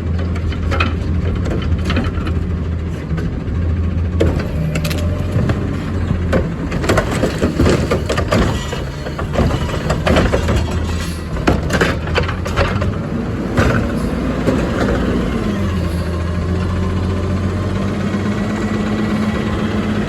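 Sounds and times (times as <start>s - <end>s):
trash and cart clattering: 0.0s - 18.4s
truck diesel engine running: 0.0s - 20.0s.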